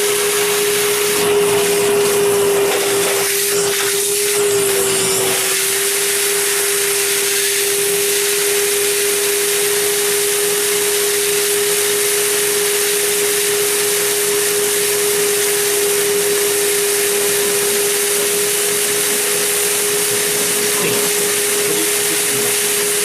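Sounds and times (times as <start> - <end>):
shop vac motor hum: 0.0 - 23.0.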